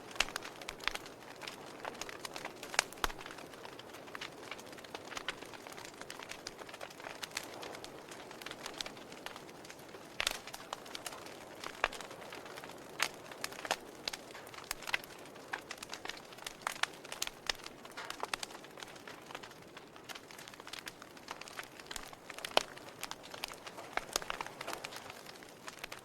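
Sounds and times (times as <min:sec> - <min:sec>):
log fire crackling: 0:00.0 - 0:26.0
sharp pops and snaps: 0:00.0 - 0:26.0.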